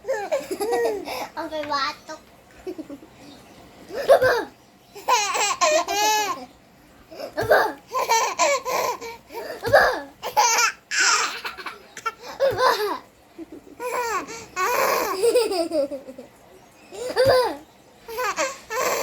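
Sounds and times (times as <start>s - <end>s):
young child laughing: 0.0s - 1.4s, 2.6s - 3.2s, 3.9s - 6.4s, 7.2s - 19.0s.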